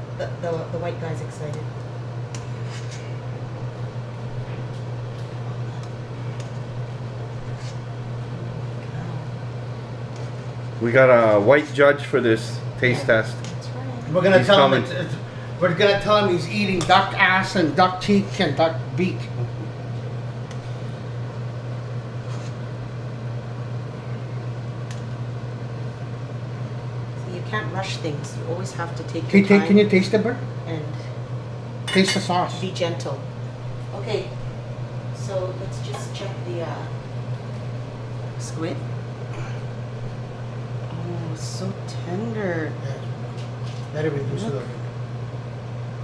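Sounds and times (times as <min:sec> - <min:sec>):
low fan hum: 0:00.0 - 0:46.0.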